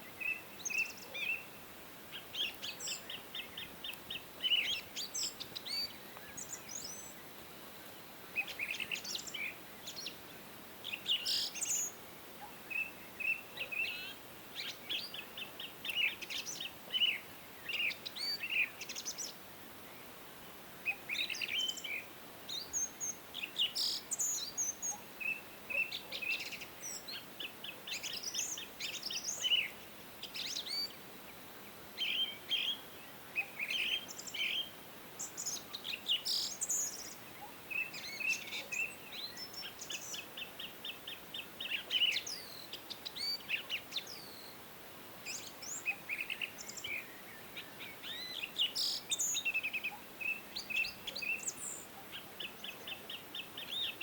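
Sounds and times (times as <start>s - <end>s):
faint steady hiss: 0.0s - 54.0s
songbirds chirping and trilling: 0.0s - 54.0s.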